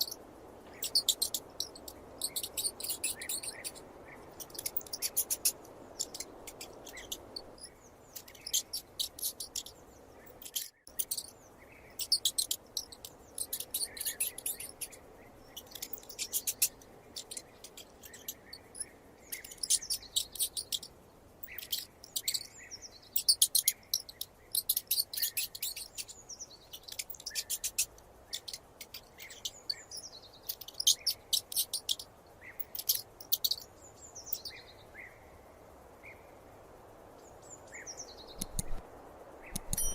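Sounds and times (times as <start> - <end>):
mouse squeaking: 0.0 - 3.8, 4.4 - 11.3, 12.0 - 22.5, 23.2 - 33.6, 38.4 - 38.8, 39.5 - 39.9.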